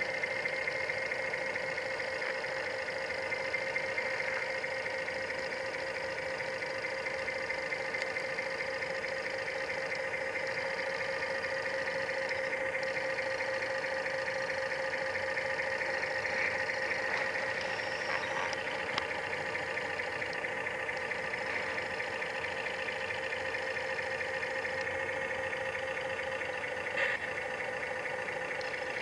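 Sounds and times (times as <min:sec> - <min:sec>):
model machinery whining: 0:00.0 - 0:29.0.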